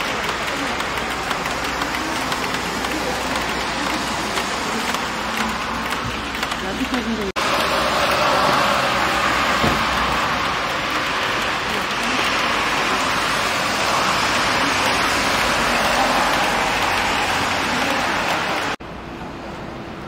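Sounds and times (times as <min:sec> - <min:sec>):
rain on wet pavement: 0:00.0 - 0:19.7.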